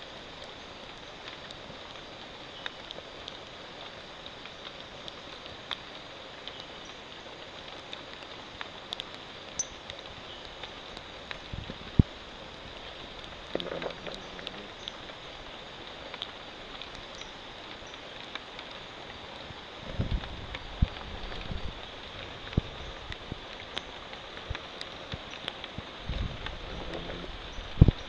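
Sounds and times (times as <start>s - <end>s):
rain on leaves: 0.0s - 28.0s
water drips: 0.1s - 28.0s.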